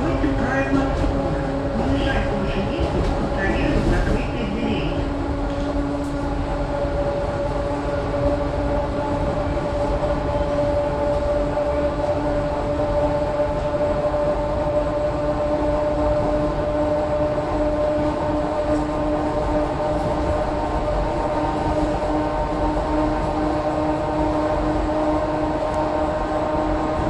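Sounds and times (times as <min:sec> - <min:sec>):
train rumbling at speed: 0:00.0 - 0:27.0.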